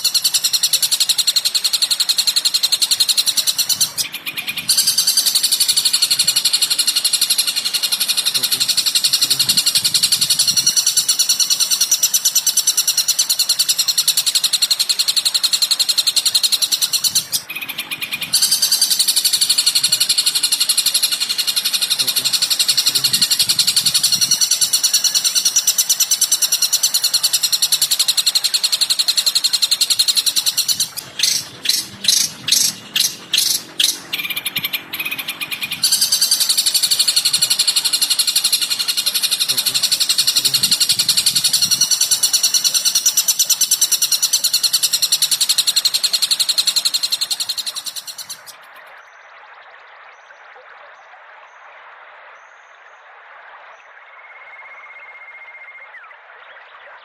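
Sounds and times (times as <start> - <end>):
bird chattering trill: 0.0 - 48.6
sharp bird notes: 0.0 - 48.6.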